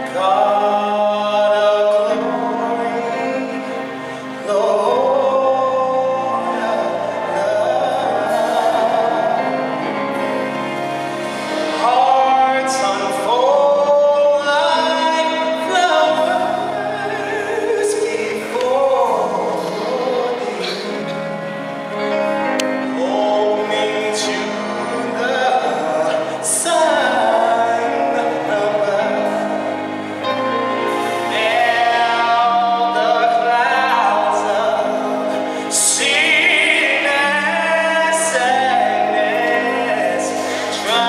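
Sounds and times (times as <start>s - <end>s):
gospel choir singing: 0.0s - 41.0s
male soloist singing: 0.0s - 41.0s.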